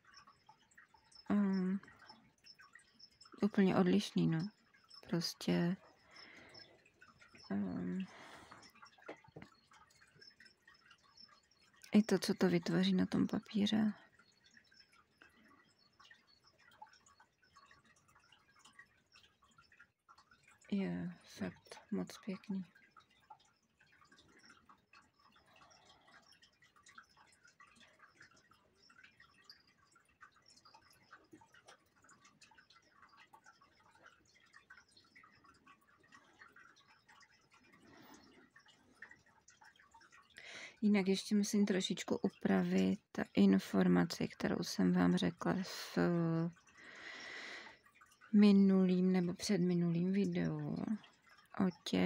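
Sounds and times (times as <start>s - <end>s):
faint small ticks and taps: 0.0s - 52.0s.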